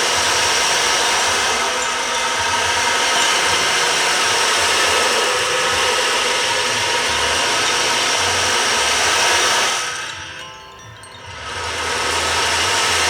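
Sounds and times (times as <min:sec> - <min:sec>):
gong ringing: 0:00.0 - 0:13.0.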